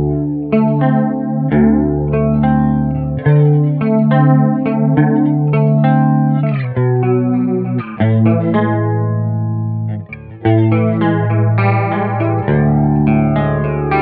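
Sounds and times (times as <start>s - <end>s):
flanged electric guitar chords: 0.0s - 14.0s.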